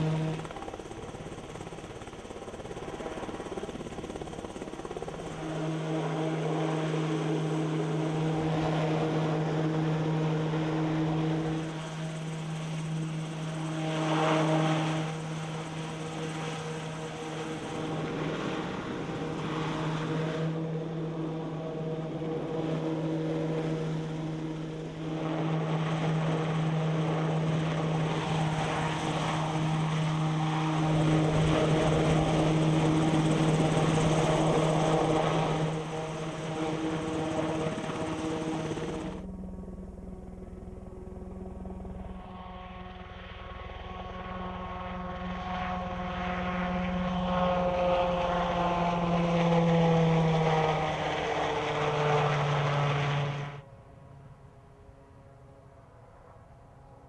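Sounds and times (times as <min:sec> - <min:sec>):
helicopter droning: 0:00.0 - 0:57.0.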